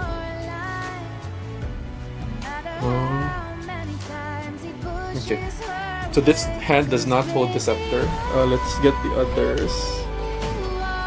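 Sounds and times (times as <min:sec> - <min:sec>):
background music melody over bass: 0:00.0 - 0:11.0.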